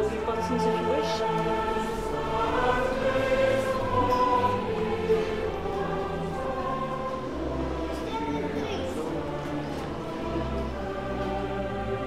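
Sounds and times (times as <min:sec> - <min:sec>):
choir singing long notes: 0:00.0 - 0:12.0.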